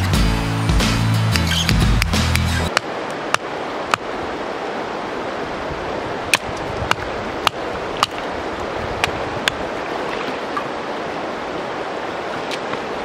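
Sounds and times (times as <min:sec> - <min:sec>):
river rushing: 0:00.2 - 0:13.0.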